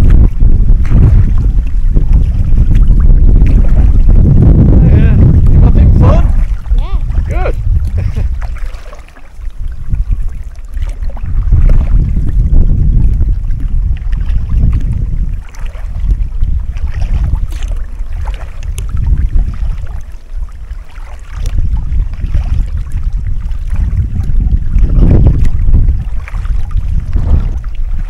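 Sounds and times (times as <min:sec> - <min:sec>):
paddle splashes: 0:00.0 - 0:04.4, 0:05.2 - 0:28.0
wind buffeting microphone: 0:00.0 - 0:28.0.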